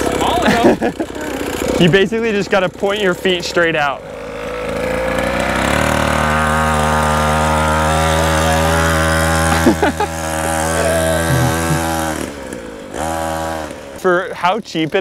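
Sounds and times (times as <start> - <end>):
two-stroke bike engine buzzing: 0.0 - 15.0.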